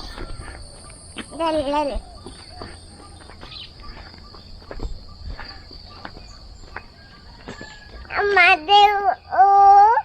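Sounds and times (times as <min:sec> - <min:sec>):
footsteps on ground: 0:00.0 - 0:09.1
insects droning: 0:00.0 - 0:10.0.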